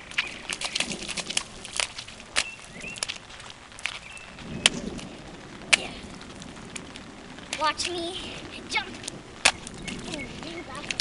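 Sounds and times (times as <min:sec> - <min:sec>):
footsteps in sandals on wet pavement: 0:00.0 - 0:11.0.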